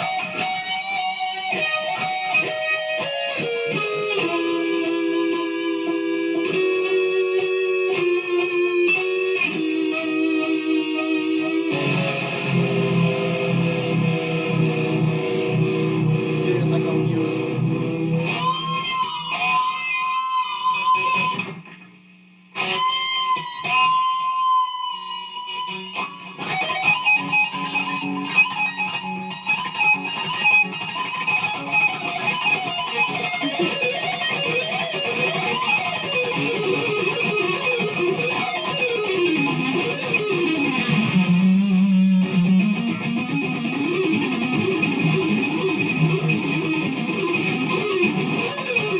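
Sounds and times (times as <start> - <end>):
distorted electric guitar metal: 0.0 - 48.9.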